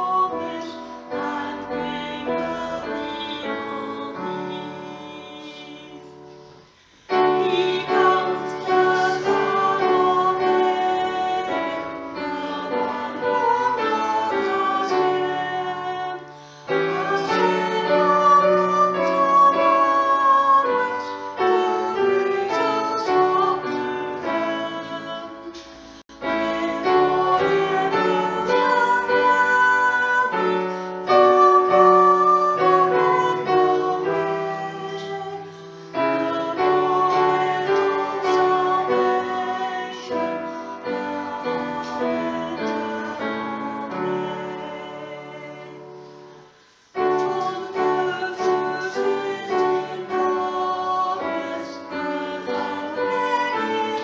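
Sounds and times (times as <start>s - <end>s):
piano chords: 0.0s - 54.0s
voices singing: 0.0s - 54.0s.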